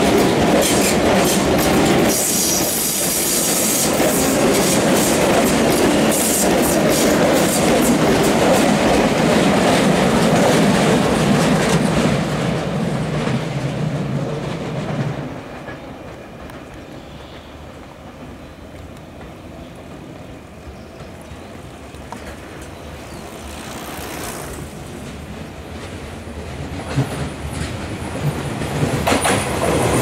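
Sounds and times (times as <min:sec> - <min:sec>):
train wheels rumbling on rail: 0:00.0 - 0:30.0
wheels clicking over rail joints: 0:00.0 - 0:30.0.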